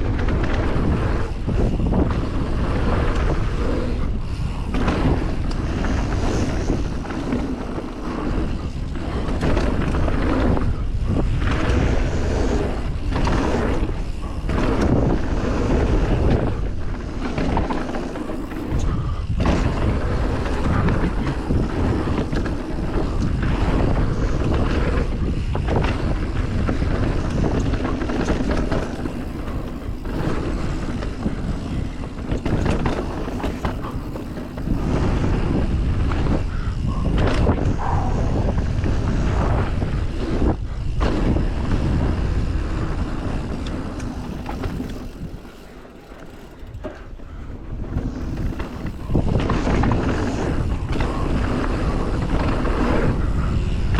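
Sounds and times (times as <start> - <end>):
tyres rolling over dirt: 0.0 - 36.5, 37.1 - 53.9
bike rattling: 0.0 - 53.9
wind rush on microphone: 0.0 - 53.9.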